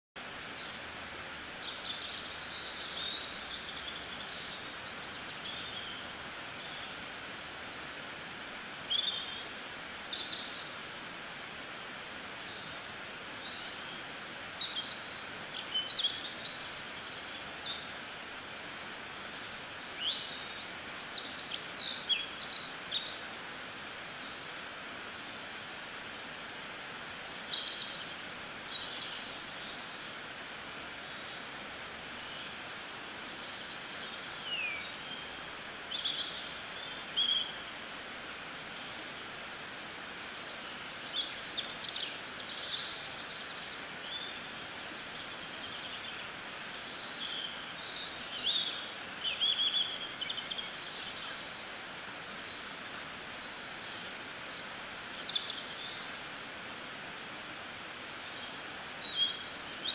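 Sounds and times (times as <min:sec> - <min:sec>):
stream rushing over rocks: 0:00.2 - 0:59.9.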